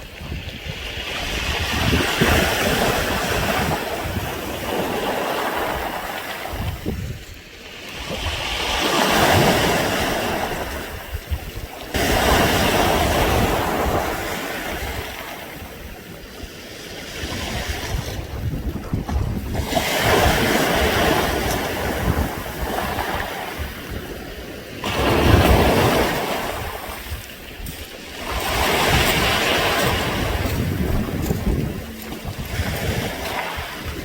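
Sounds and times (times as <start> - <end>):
waves washing over pebbles: 0.0 - 34.0.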